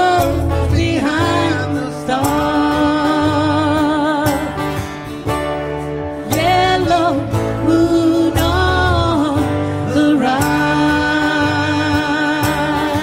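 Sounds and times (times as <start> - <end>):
live folk band music: 0.0 - 13.0.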